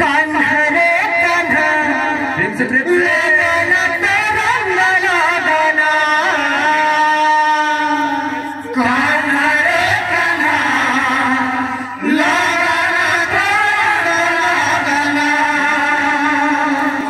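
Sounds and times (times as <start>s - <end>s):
men singing devotional chorus: 0.0s - 17.0s.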